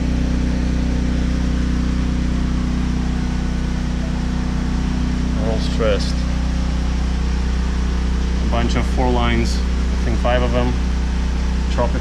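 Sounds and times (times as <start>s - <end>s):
generator droning: 0.0s - 12.0s.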